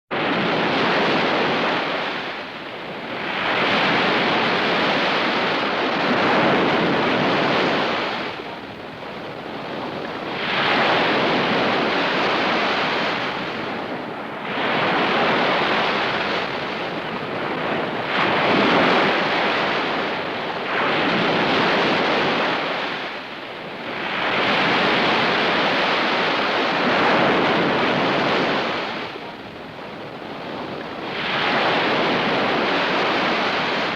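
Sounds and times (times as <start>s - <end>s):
ocean waves breaking: 0.1s - 33.9s.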